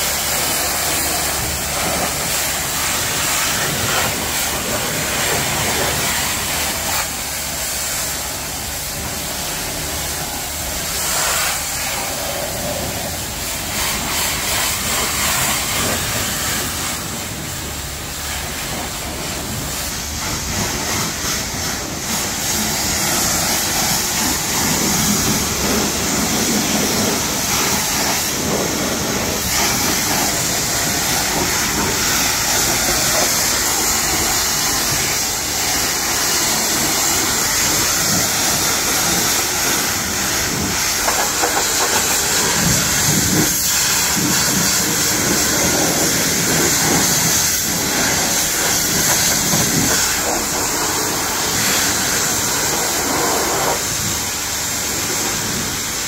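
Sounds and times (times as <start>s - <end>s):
high-pressure water jet hissing: 0.0s - 56.0s.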